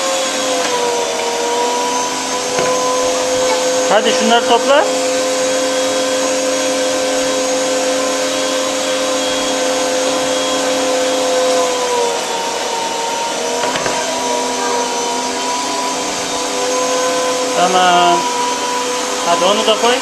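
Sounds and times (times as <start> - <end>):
meat grinder motor hum: 0.0 - 20.0.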